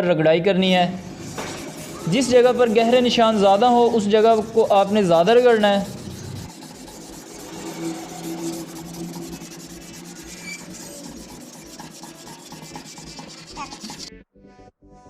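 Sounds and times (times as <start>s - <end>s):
sandpaper rubbing on metal: 1.0s - 14.1s.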